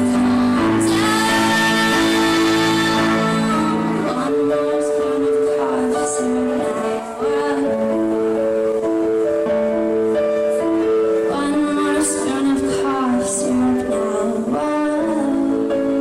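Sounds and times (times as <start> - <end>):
girl singing: 0.0 - 8.2, 11.3 - 16.0
acoustic accompaniment: 0.0 - 16.0.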